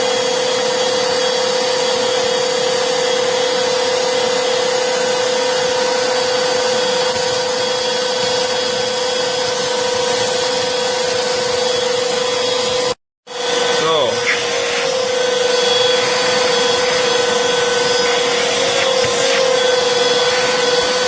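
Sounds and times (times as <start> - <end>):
handheld vacuums running: 0.0 - 21.0.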